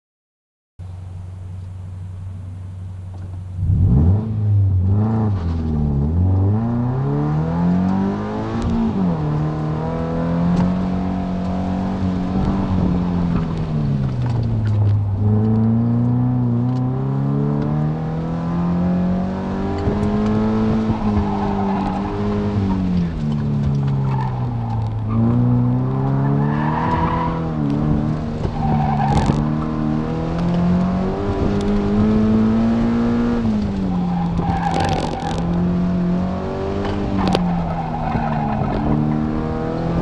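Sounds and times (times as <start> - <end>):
car engine revving: 1.0 - 40.0.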